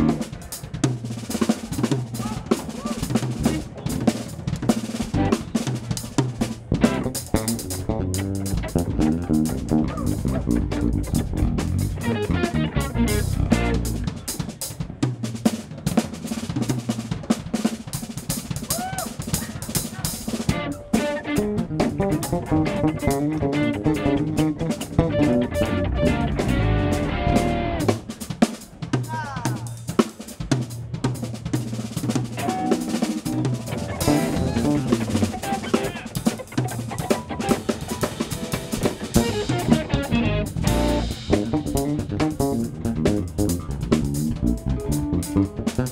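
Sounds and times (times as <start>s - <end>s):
drum kit: 0.0s - 45.9s
funk band playing: 0.0s - 45.9s.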